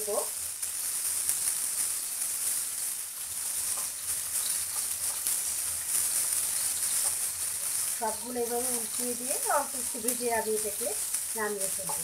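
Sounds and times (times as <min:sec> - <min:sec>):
prawns sizzling in oil: 0:00.0 - 0:12.0.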